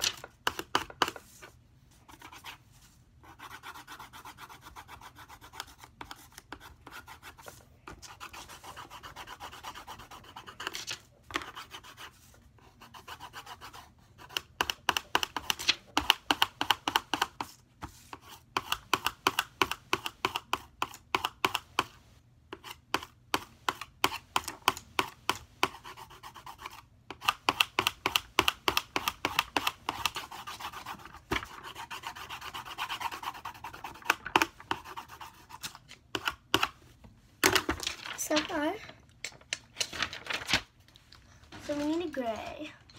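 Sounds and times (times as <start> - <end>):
colored pencil scratching on paper: 0.5 - 24.4, 25.0 - 36.8.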